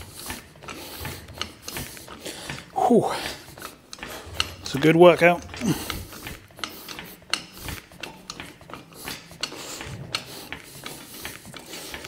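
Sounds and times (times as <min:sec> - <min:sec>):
hydraulic jack pump clicks and scrapes: 0:00.0 - 0:12.0.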